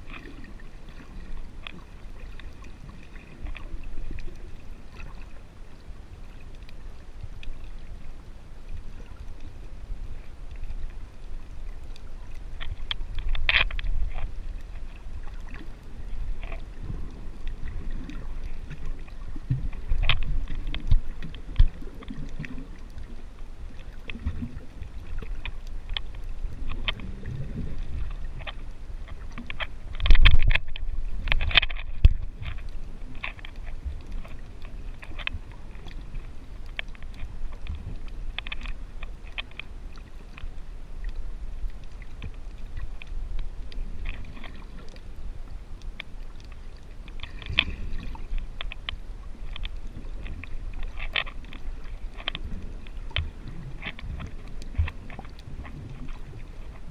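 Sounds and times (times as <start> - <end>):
underwater water rumble: 0.0 - 56.9.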